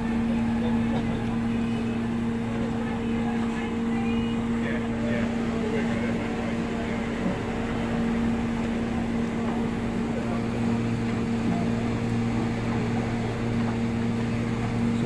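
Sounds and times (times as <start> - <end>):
engine humming at idle: 0.0 - 15.0.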